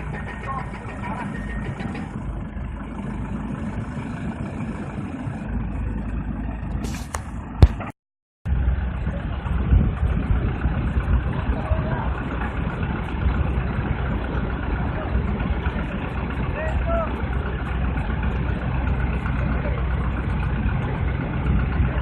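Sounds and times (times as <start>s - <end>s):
pile-driving rig engine running: 0.0s - 7.9s, 8.5s - 22.0s.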